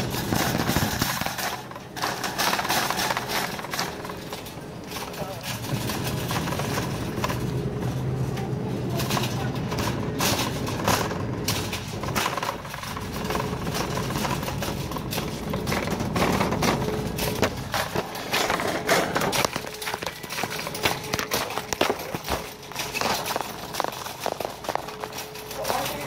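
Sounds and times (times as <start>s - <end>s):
knocks and clatter: 0.0s - 26.0s
steady hum: 0.0s - 26.0s
indistinct voices: 2.8s - 26.0s.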